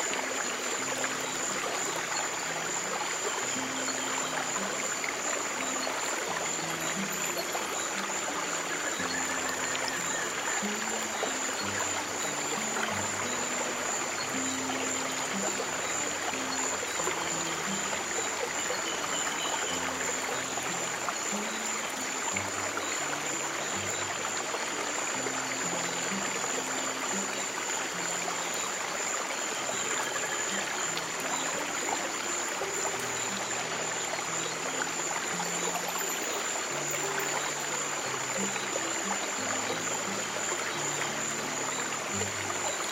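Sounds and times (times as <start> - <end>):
soft low music notes: 0.0 - 42.9
stream water rushing: 0.0 - 42.9.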